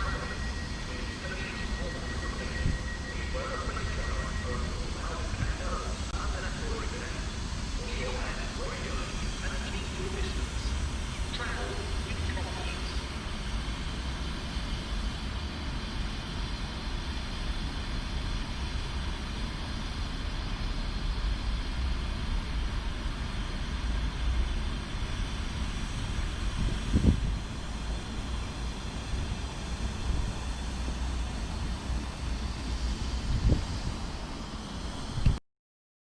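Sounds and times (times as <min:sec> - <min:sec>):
train rumbling: 0:00.0 - 0:16.0, 0:19.9 - 0:35.4.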